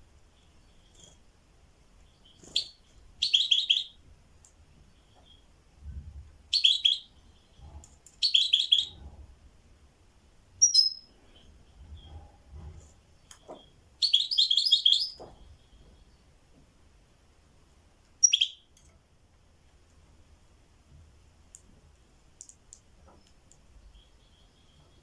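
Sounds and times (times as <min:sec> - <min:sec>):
songbird chirping: 0:00.0 - 0:09.2, 0:10.1 - 0:19.0, 0:21.4 - 0:25.0.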